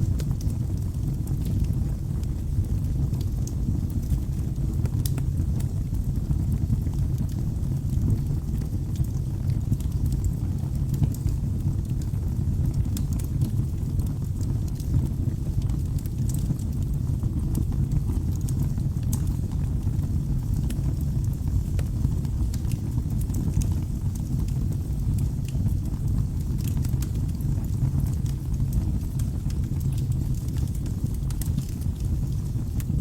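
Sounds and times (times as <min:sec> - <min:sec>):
fire flames rumbling: 0:00.0 - 0:33.0
logs crackling and popping: 0:00.0 - 0:33.0.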